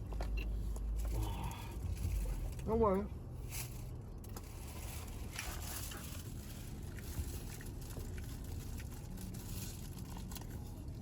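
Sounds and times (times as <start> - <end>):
faint clicks and rustles: 0.0 - 11.0
low background rumble: 0.0 - 11.0.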